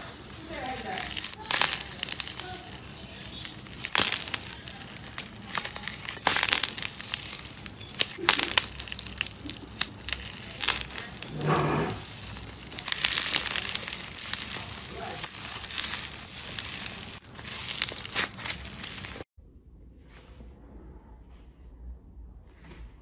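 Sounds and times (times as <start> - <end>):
crunchy slime crackling: 0.0 - 19.3.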